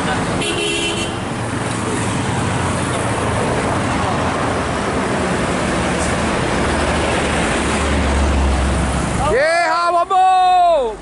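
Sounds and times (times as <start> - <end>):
bus engine drone: 0.0 - 9.4
tyre and road noise: 0.0 - 11.0.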